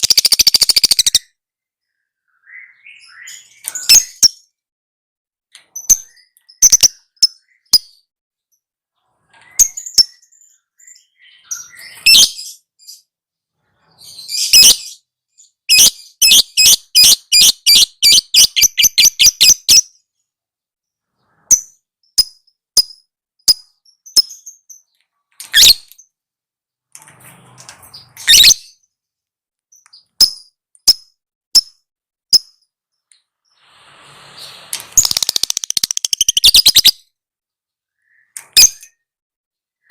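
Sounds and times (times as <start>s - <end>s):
bird high chirps: 0.0s - 4.6s, 5.5s - 8.1s, 9.0s - 26.2s, 27.6s - 29.0s, 29.7s - 37.2s, 37.8s - 39.1s.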